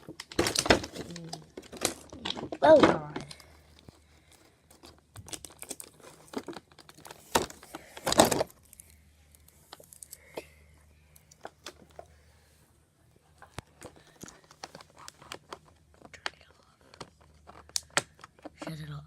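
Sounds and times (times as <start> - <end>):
packaging crackling rustle: 0.0 - 10.2, 13.4 - 18.6
plastic parts clicking and tapping: 0.0 - 10.4, 13.4 - 18.9.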